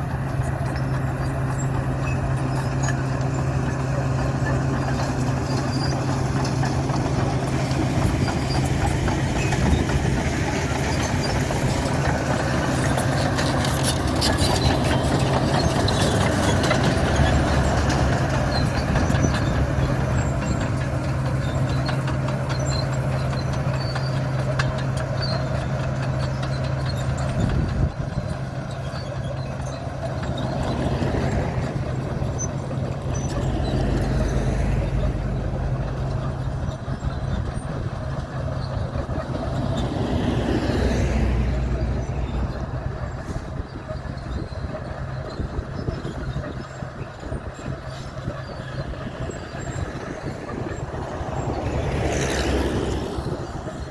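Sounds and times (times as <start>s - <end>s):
bulldozer diesel engine running: 0.0s - 53.9s
tracks and blade scraping road: 0.0s - 53.9s.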